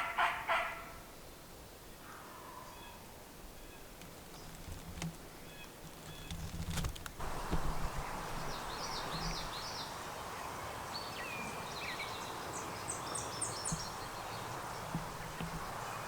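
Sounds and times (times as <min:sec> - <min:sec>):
background hiss: 0:00.0 - 0:16.0
songbirds singing: 0:00.0 - 0:16.0.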